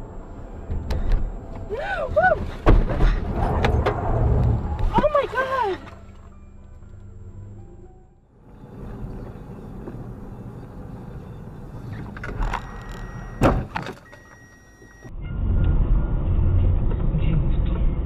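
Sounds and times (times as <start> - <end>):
car interior road noise: 0.0 - 18.0
vehicle low rumble on road: 0.0 - 18.0.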